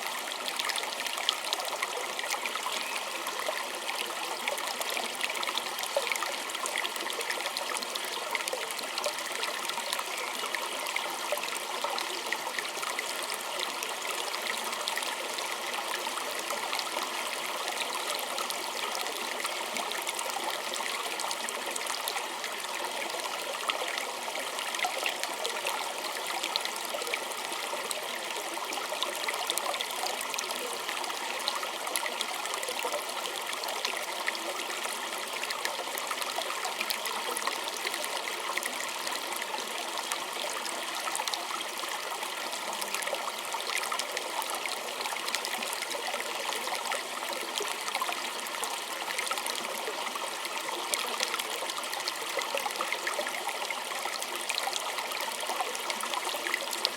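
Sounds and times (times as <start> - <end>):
creek trickling over stones: 0.0 - 56.9.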